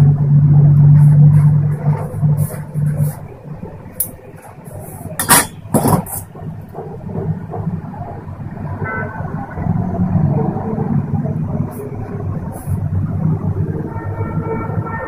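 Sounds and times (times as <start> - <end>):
low hum: 0.0 - 14.9.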